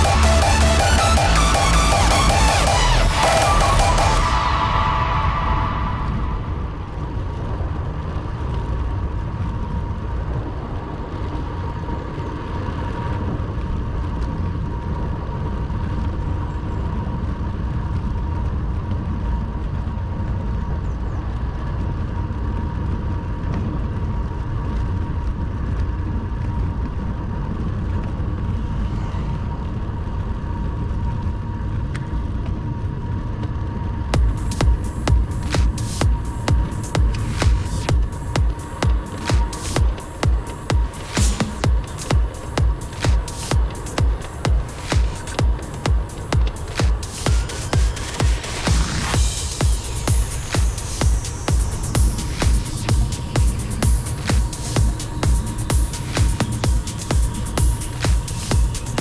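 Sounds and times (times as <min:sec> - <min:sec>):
faint steady whine: 0:00.0 - 0:59.0
road noise: 0:00.0 - 0:59.0
wind rumbling on microphone: 0:04.0 - 0:59.0.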